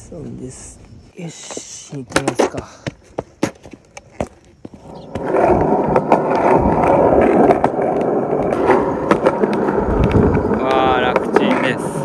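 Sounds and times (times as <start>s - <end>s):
skateboard rolling on asphalt: 1.3s - 12.0s.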